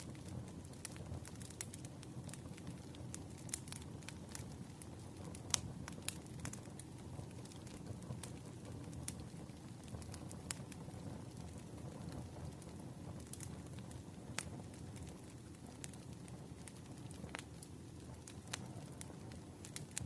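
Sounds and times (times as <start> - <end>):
fire low rumble: 0.0 - 20.0
firewood crackling and popping: 0.0 - 20.0.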